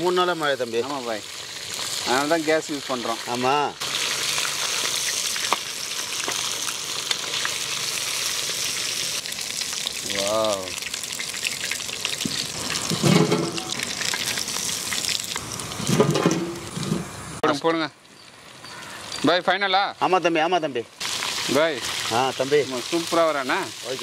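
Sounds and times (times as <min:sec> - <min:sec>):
fish deep-frying in oil: 0:00.0 - 0:17.2, 0:18.0 - 0:24.0.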